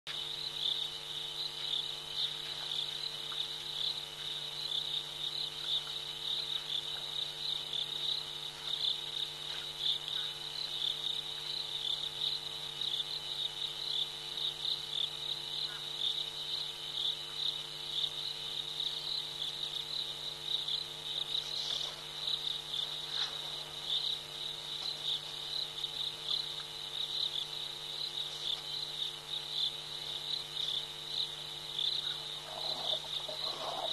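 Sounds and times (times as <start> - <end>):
faint low hum: 0.1 - 33.9
night insects trilling: 0.1 - 33.9.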